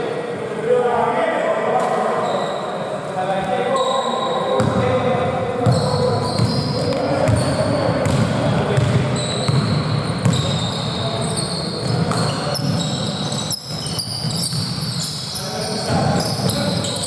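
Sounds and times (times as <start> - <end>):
players' voices: 0.0 - 17.0
sneaker squeaks on floor: 2.1 - 2.8, 3.4 - 5.0, 5.6 - 17.0.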